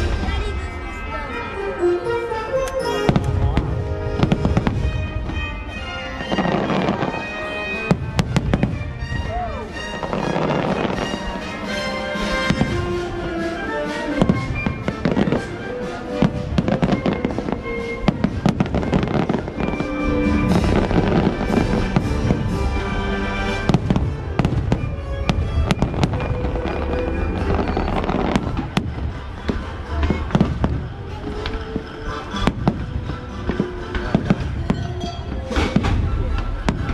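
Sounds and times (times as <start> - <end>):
loud show music: 0.0 - 36.9
fireworks bursting with sharp bangs: 2.8 - 36.9.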